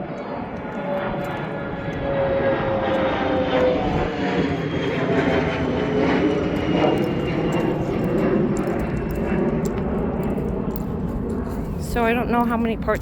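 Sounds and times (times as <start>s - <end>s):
propeller airplane flying over: 0.0s - 13.0s
wind rumble on microphone: 0.0s - 13.0s.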